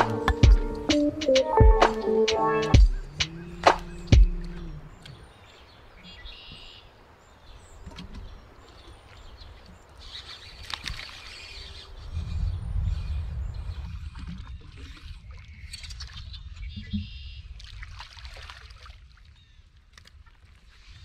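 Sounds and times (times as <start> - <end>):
birds chirping faintly: 0.1 - 17.4.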